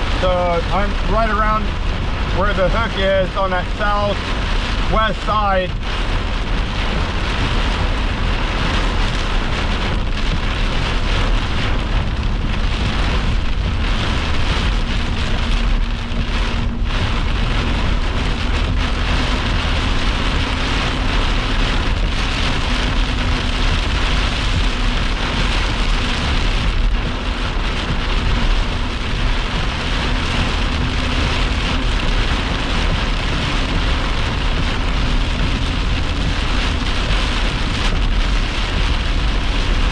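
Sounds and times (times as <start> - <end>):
heavy rain pelting a vehicle: 0.0 - 39.9.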